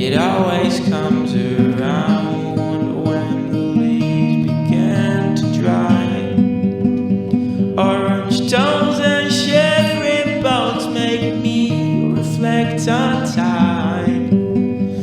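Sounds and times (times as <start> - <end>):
guitar-led band music: 0.0 - 15.0.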